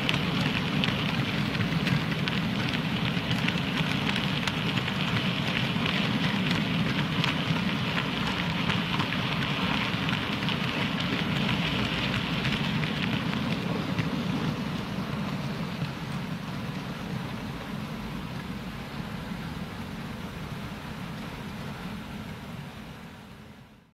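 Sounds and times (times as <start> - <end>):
model train wagons rolling on track: 0.0 - 22.6.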